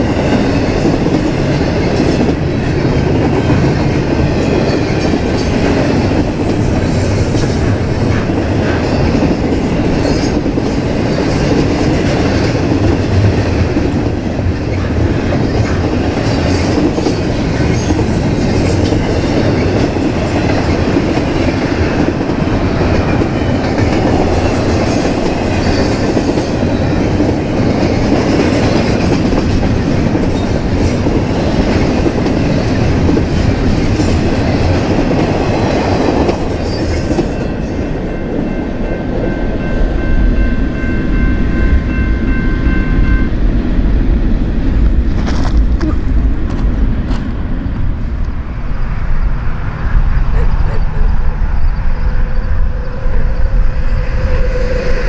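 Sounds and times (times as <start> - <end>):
clickety-clack of wheels on rails: 0.0 - 50.5
freight train rumbling past: 0.0 - 55.0.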